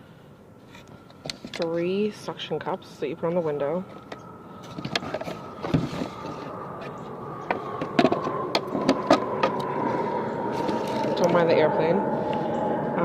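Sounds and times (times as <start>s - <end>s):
airplane drone overhead: 0.0s - 13.0s.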